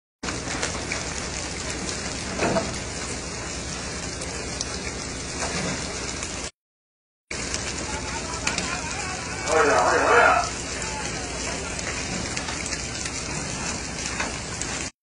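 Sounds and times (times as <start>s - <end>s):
water rushing: 0.2s - 6.5s, 7.3s - 14.9s
wind: 0.2s - 6.5s, 7.3s - 14.9s.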